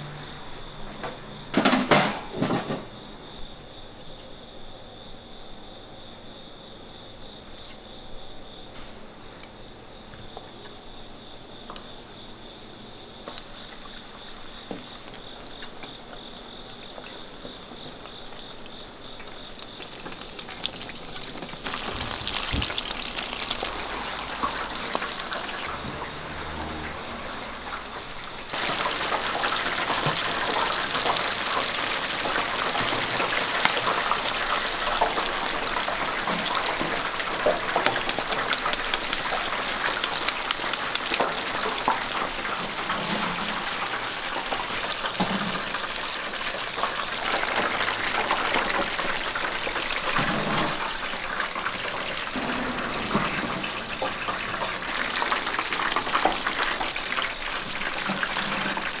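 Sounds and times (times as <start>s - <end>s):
food sizzling in deep fryer oil: 7.1s - 59.0s.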